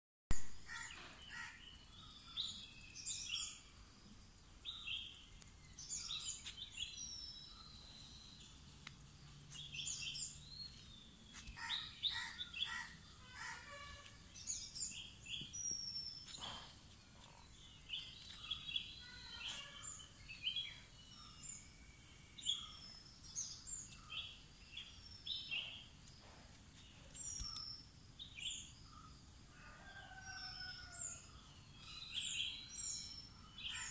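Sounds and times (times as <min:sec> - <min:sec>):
birds chirping: 0:00.4 - 0:13.7, 0:14.4 - 0:28.6.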